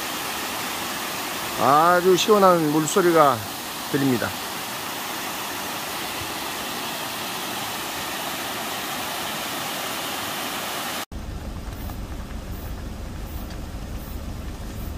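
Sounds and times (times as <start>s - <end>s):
mountain stream rushing over rocks: 0.0s - 13.6s.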